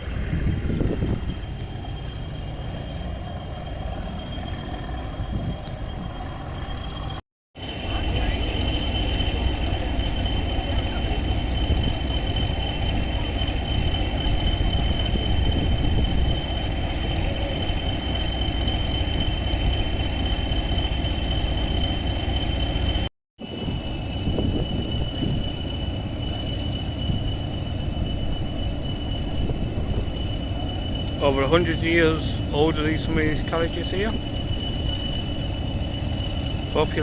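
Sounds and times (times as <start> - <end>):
high-pitched whine: 0.0 - 37.0
train wheels rumbling: 0.0 - 37.0.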